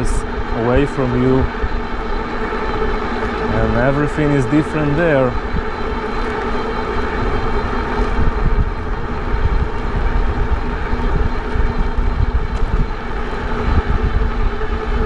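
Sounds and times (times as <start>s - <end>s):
electric motor whine: 0.0s - 15.0s
wind buffeting microphone: 0.0s - 15.0s.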